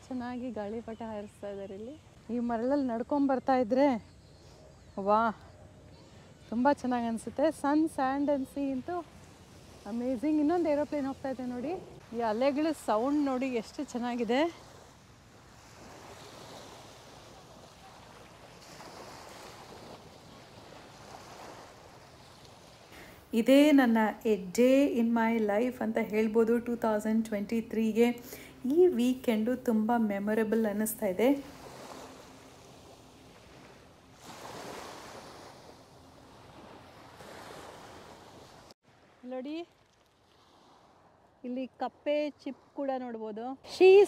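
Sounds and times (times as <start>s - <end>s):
small waves washing on beach: 6.0s - 44.0s.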